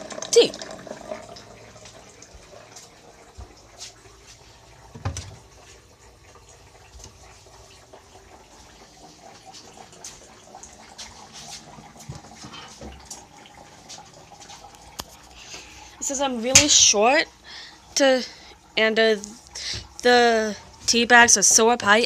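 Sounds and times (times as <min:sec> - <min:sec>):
water filling a container: 0:00.0 - 0:22.0.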